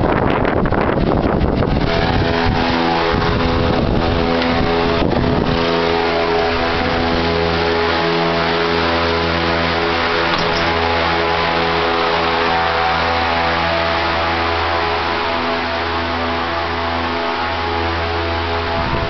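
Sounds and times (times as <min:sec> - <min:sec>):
fans humming loudly: 0:00.0 - 0:19.0.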